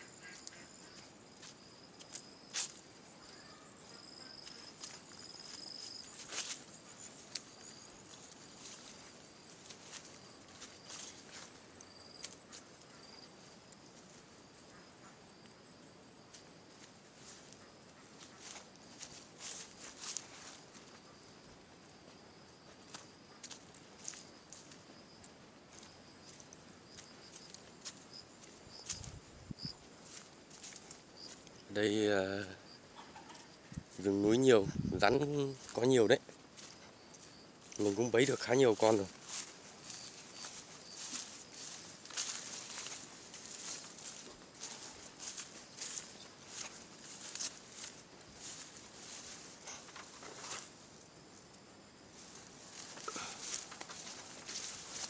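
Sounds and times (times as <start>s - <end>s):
footsteps and rustles on forest path: 0.0s - 55.0s
insects droning: 0.0s - 55.0s.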